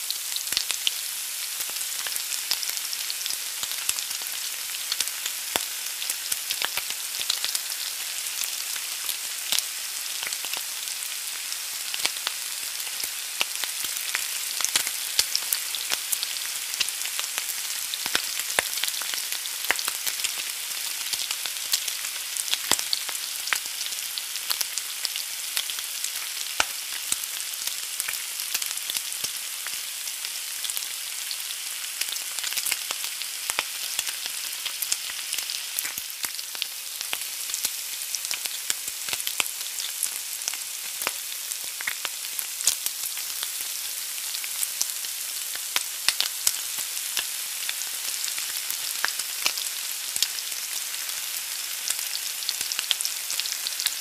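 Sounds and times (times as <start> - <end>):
egg sizzling in a pan: 0.0 - 54.0.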